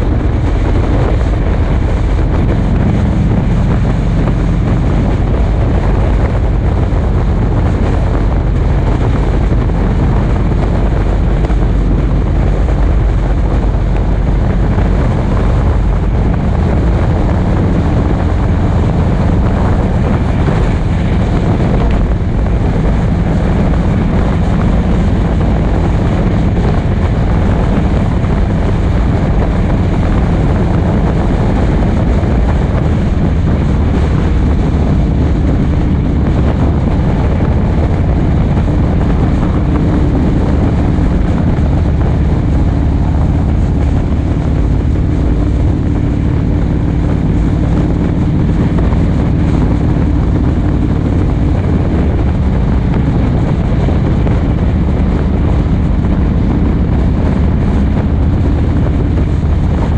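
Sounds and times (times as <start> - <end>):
vehicle engine cruising: 0.0 - 59.9
wind noise: 0.0 - 59.9.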